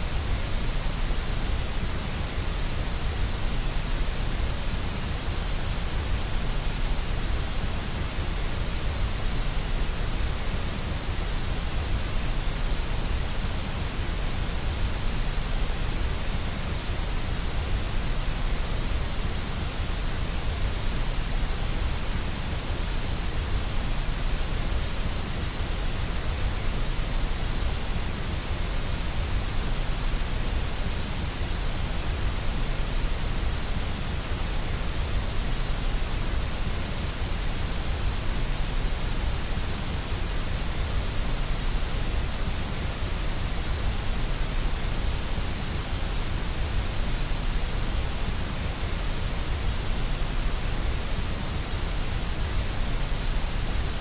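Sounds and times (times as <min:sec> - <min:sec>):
steady white noise: 0:00.0 - 0:54.0.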